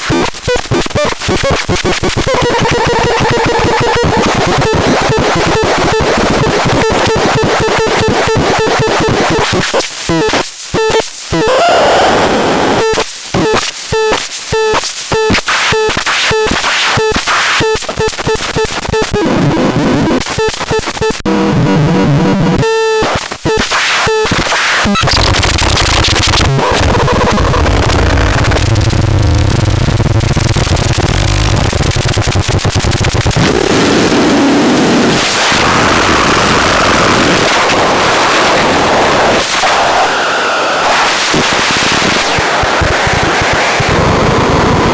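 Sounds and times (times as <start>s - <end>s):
synthesizer harsh electronic noise: 0.0s - 44.9s.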